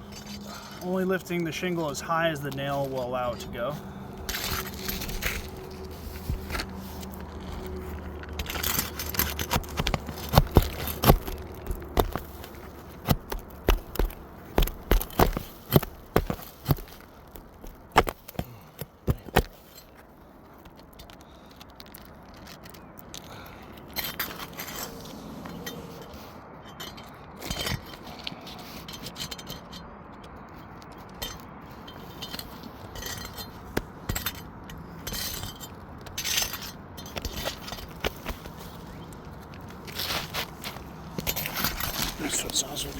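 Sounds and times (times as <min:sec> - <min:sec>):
light clinks and scrapes: 0:00.0 - 0:42.9.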